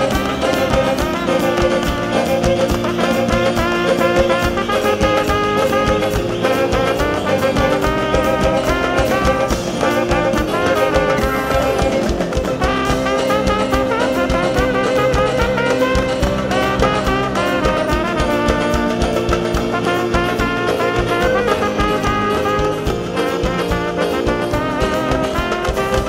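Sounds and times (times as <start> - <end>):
bass guitar: 0.0 - 26.0
brass instruments: 0.0 - 26.0
drum kit beat: 0.0 - 26.0
electric guitar: 0.0 - 26.0
hand drum: 0.0 - 26.0
violins: 0.0 - 26.0.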